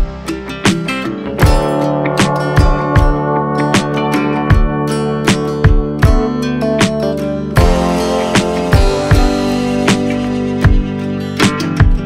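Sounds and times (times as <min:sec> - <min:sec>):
sharp beats: 0:00.0 - 0:12.0
strummed acoustic guitar music: 0:00.0 - 0:12.0.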